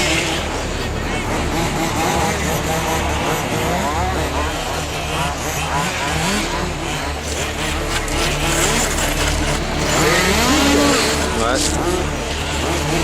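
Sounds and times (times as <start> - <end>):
small two-stroke engines racing: 0.0 - 13.0.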